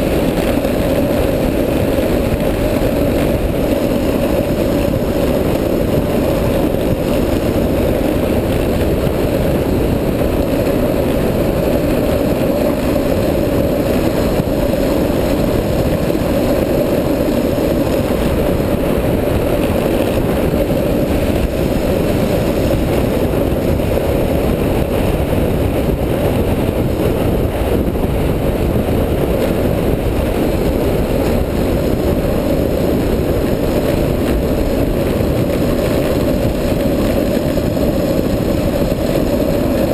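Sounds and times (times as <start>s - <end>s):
wheels rumbling on asphalt: 0.0s - 39.9s
wind rushing: 0.0s - 39.9s.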